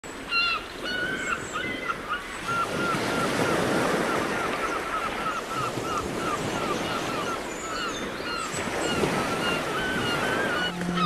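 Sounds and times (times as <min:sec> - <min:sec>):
ocean surf washing: 0:01.4 - 0:11.0.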